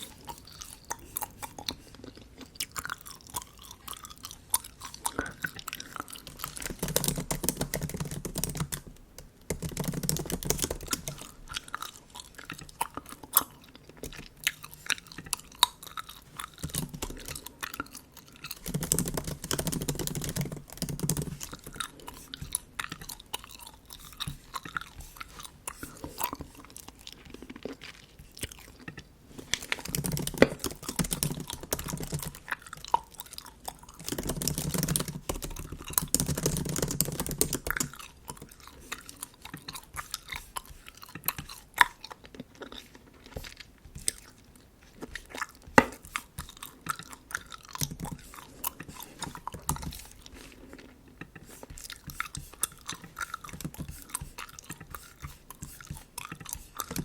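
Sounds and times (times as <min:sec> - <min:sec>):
gum chewing with wet smacks: 0:00.0 - 0:57.0.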